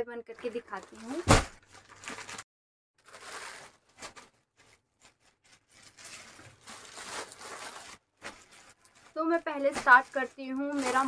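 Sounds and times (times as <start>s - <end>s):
plastic packets rustling: 0.4s - 11.0s.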